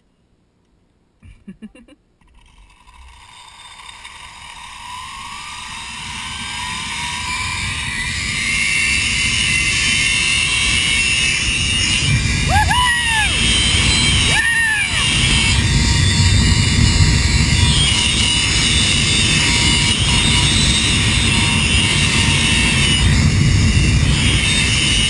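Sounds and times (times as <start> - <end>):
zip-line pulleys whirring on cable: 2.2 - 25.0
rushing air: 3.6 - 25.0.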